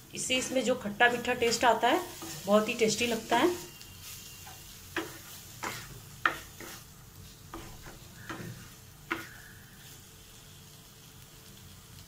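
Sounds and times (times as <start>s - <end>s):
faint sizzle: 0.0s - 12.0s
spatula scraping frying pan: 0.2s - 10.1s.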